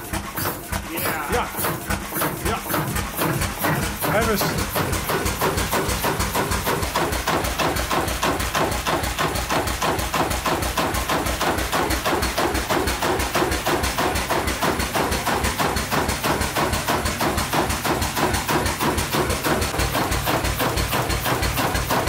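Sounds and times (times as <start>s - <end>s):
marine engine knocking: 0.0s - 22.0s.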